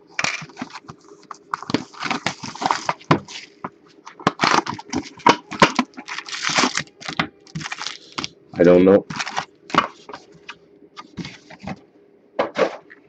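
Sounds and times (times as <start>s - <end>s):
wrapper and cardboard rustling: 0.0s - 8.4s, 9.0s - 11.8s.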